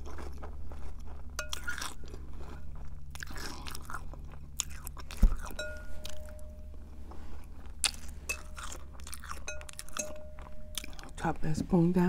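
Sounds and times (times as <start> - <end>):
person chewing crunchy cereal: 0.0 - 11.2.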